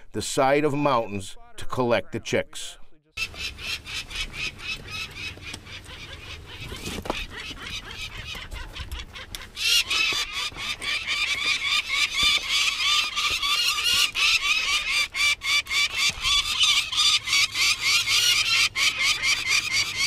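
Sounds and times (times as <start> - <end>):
falcon calling harsh notes: 3.2 - 20.0.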